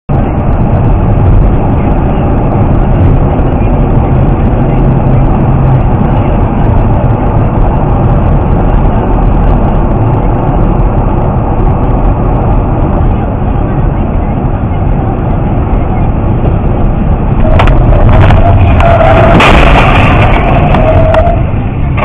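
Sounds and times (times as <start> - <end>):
car tyre and engine rumble: 0.1 - 22.0.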